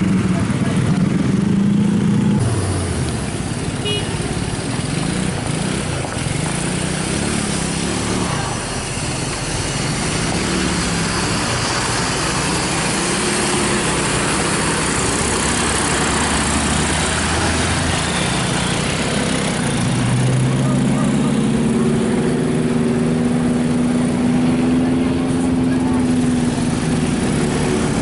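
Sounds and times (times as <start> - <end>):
bus engine running: 0.0 - 28.0
road noise: 0.0 - 28.0.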